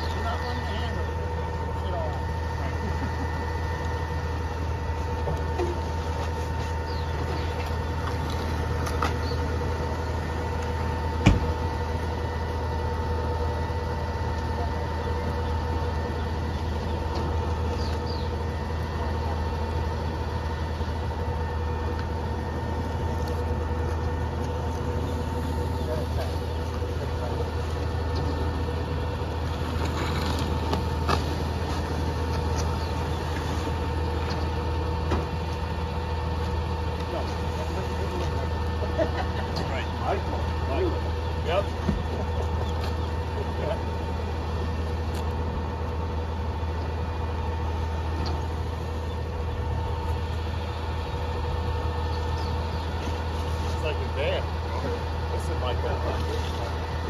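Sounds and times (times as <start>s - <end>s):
garbage truck idling: 0.0s - 57.0s.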